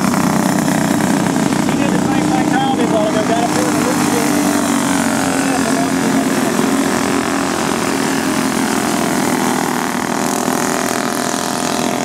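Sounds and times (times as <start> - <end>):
racing kart engines buzzing: 0.0 - 12.0.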